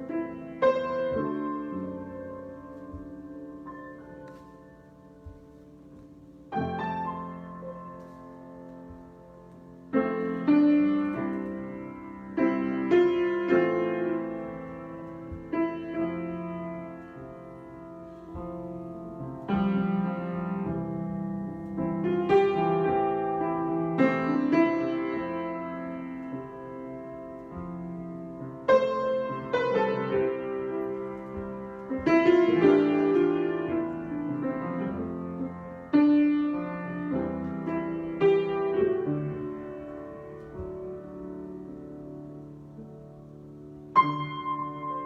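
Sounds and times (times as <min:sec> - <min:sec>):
slow piano chords: 0:00.0 - 0:45.0.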